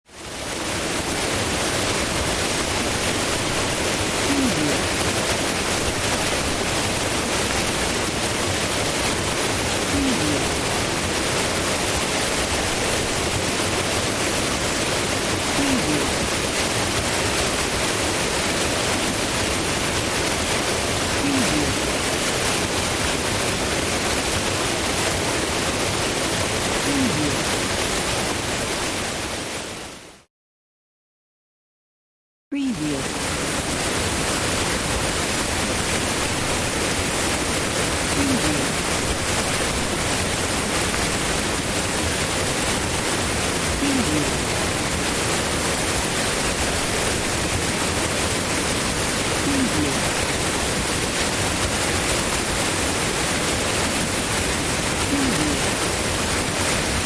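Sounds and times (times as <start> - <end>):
powerful rushing water roar: 0.1 - 30.2, 32.7 - 57.0.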